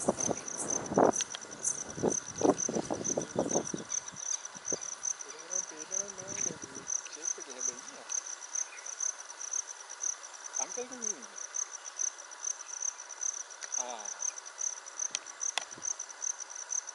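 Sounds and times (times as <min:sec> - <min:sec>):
insect chirping: 0:00.0 - 0:16.9.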